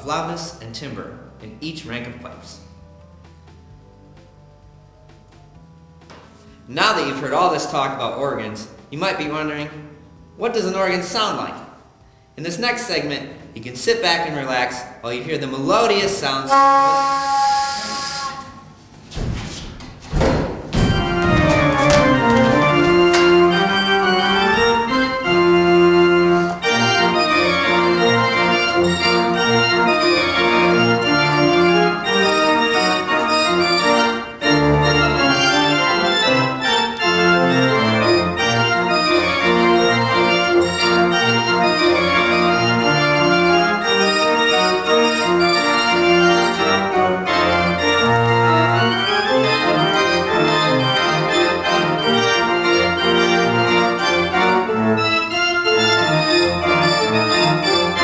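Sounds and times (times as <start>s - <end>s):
pipe organ playing: 0.0s - 19.0s, 20.6s - 58.0s.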